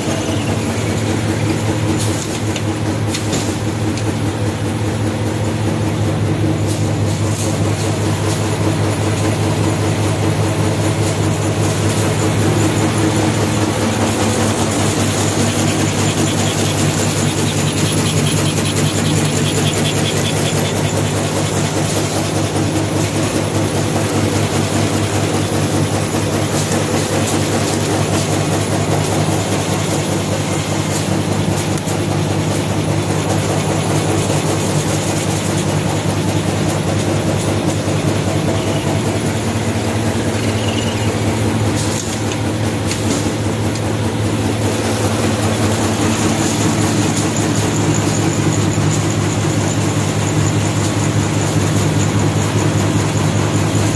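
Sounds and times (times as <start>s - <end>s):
low machine hum: 0.0s - 53.9s
machine clattering fast: 0.0s - 53.9s.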